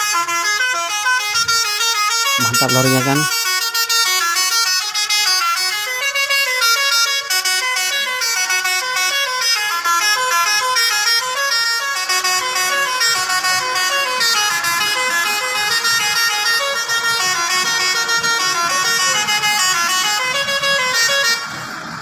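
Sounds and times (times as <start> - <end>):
musical truck horn: 0.0 - 22.0.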